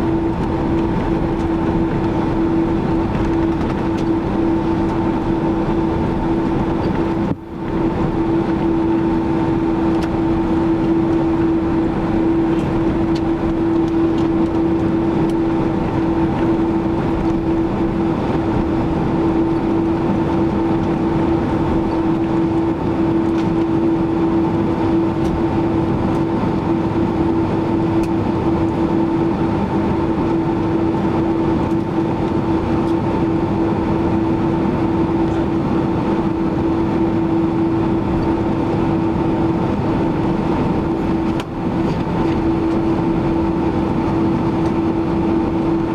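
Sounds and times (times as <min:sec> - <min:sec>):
jet engine drone in cabin: 0:00.0 - 0:45.9.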